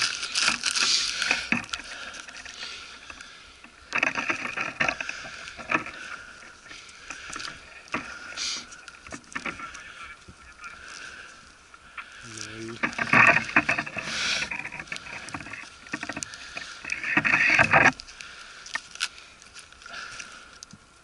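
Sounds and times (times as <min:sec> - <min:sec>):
footsteps crunching: 0:00.0 - 0:20.5.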